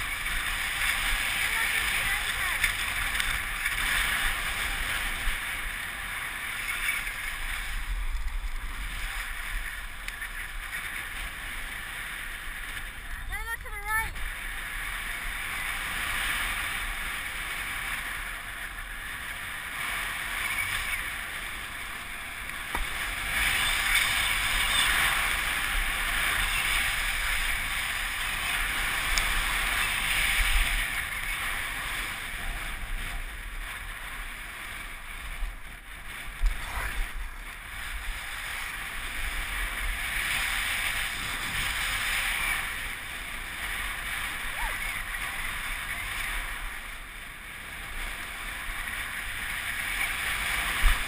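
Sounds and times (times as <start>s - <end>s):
skis carving over packed snow: 0.0s - 51.0s
wind buffeting microphone: 0.0s - 51.0s.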